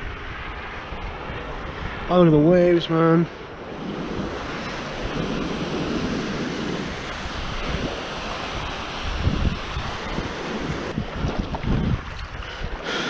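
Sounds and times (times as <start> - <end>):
waves washing in: 0.0 - 13.0
wind buffeting microphone: 0.0 - 13.0.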